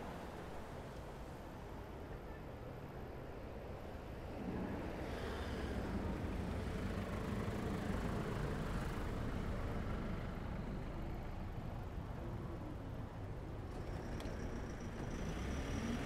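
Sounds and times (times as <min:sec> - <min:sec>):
vehicle engine and tyres: 0:00.0 - 0:16.0.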